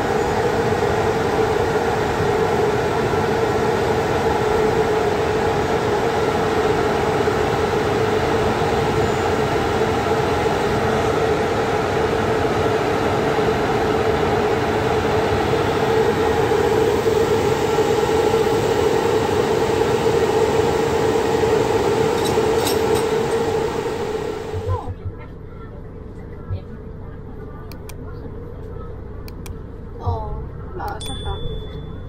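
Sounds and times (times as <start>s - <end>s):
electric locomotive humming: 0.0s - 32.0s.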